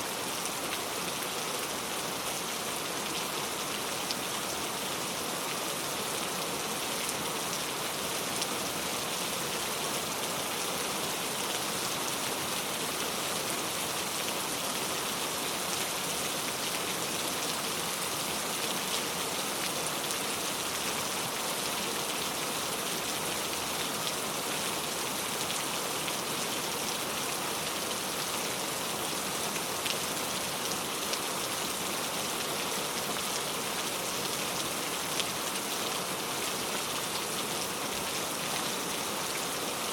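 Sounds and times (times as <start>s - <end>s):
heavy rain on road: 0.1s - 39.9s.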